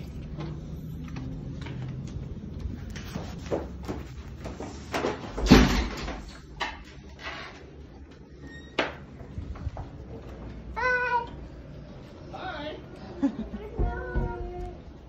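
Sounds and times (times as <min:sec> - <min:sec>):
footsteps: 0:00.0 - 0:10.8, 0:13.7 - 0:15.0.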